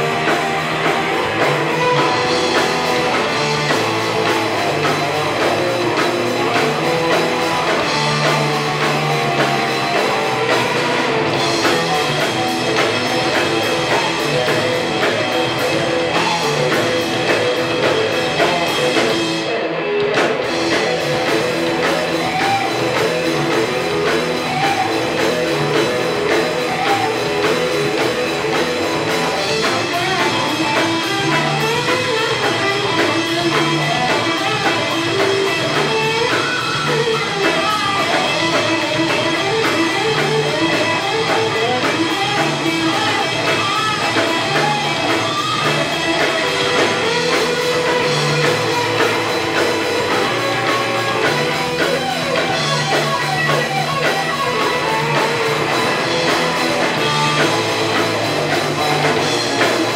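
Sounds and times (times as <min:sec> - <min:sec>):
drum kit: 0:00.0 - 0:59.9
electric bass: 0:00.0 - 0:59.9
electric guitar: 0:00.0 - 0:59.9.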